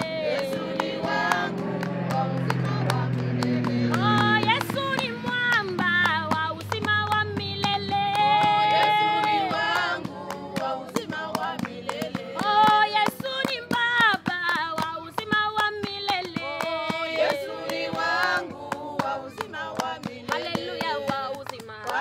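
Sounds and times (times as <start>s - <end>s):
rhythmic hand clapping: 0.0s - 22.0s
women singing together: 0.0s - 22.0s.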